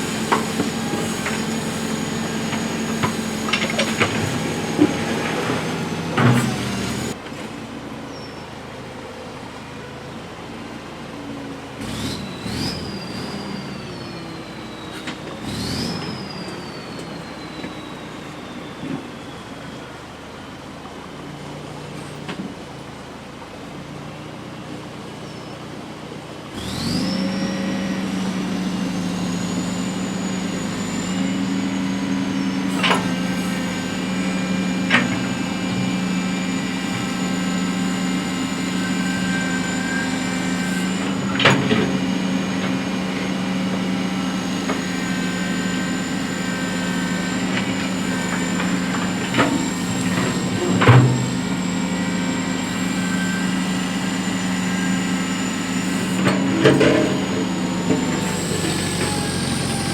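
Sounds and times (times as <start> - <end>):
diesel engine revving with whine: 0.0 - 7.3, 11.2 - 20.7, 24.9 - 59.9.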